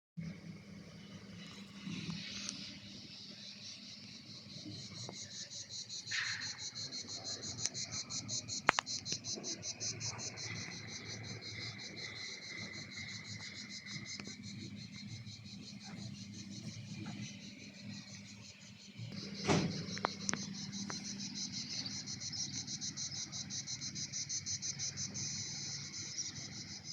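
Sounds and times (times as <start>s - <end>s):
insect chirping: 0.2s - 26.9s.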